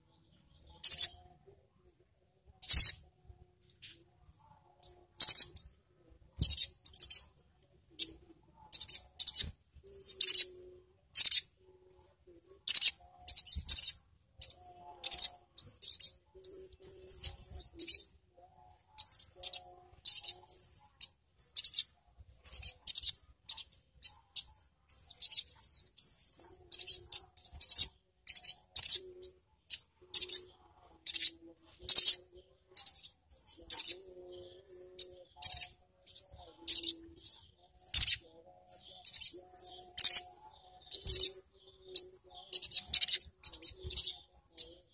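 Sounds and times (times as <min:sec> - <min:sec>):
bird twittering chirps: 0:00.0 - 0:01.3, 0:02.3 - 0:04.0, 0:04.8 - 0:05.8, 0:06.4 - 0:07.4, 0:08.0 - 0:11.6, 0:12.6 - 0:18.1, 0:18.8 - 0:44.9.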